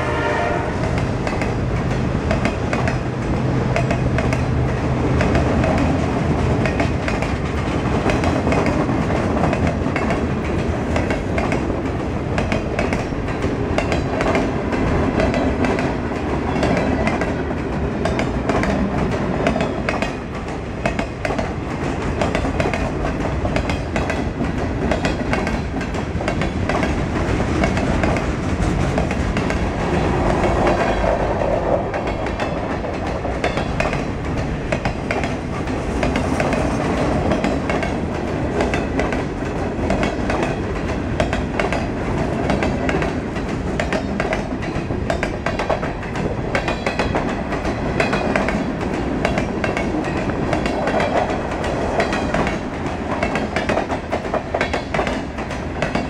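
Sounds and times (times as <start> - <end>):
freight train rumbling and rattling: 0.0 - 56.0
wheels clicking over rail joints: 0.9 - 56.0.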